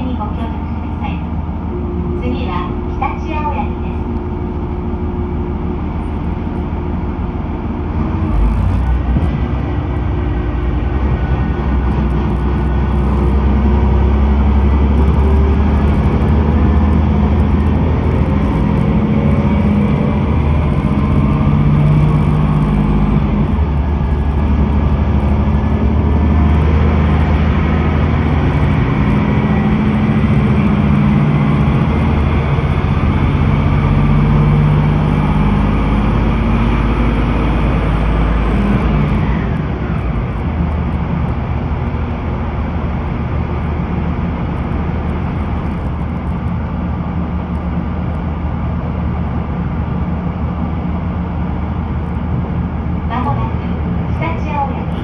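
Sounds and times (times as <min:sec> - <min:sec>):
diesel engine drone: 0:00.0 - 0:55.0
wheels rumbling on rail: 0:00.0 - 0:55.0.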